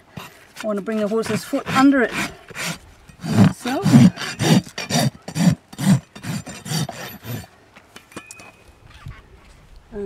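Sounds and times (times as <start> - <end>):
hoof rasp scraping: 0.0 - 9.6.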